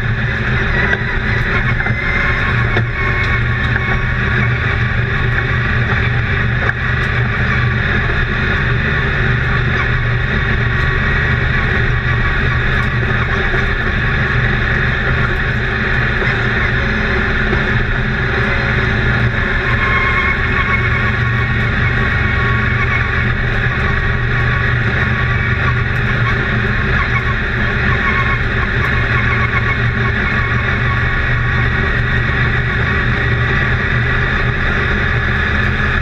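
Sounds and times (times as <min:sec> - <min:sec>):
race car engine drone: 0:00.0 - 0:36.0.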